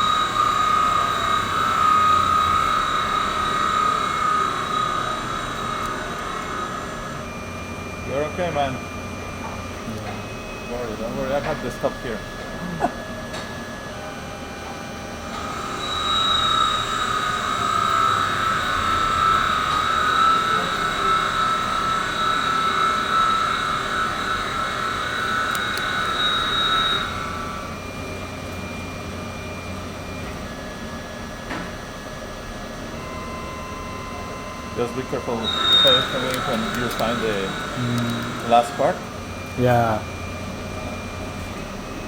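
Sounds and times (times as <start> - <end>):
lathe cutting high-pitched whine: 0.0 - 42.0
lathe machine hum: 0.0 - 42.0.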